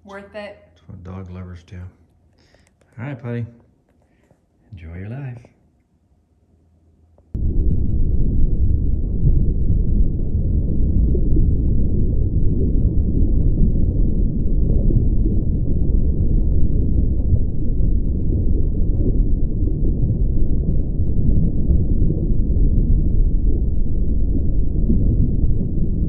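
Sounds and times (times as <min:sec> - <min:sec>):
steady low rumble: 0:00.0 - 0:03.6, 0:04.7 - 0:05.5, 0:07.2 - 0:26.0.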